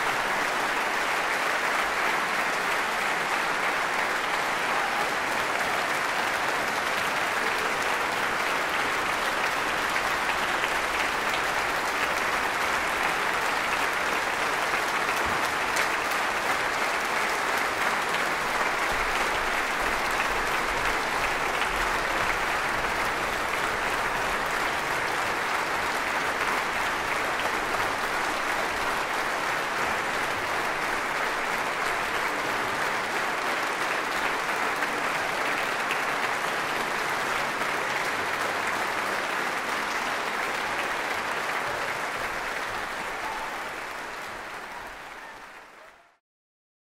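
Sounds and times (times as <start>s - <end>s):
audience applauding: 0.0s - 46.2s.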